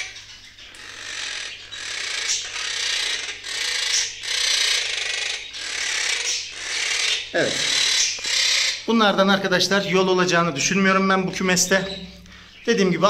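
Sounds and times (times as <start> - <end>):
parakeets growling: 0.0 - 13.0.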